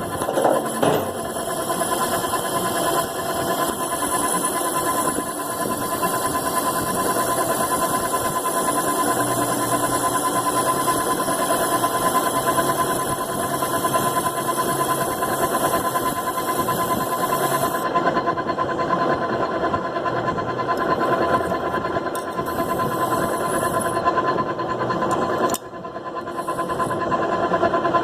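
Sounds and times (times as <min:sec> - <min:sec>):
high whine: 0:00.0 - 0:28.0
machine tool drone: 0:00.0 - 0:28.0.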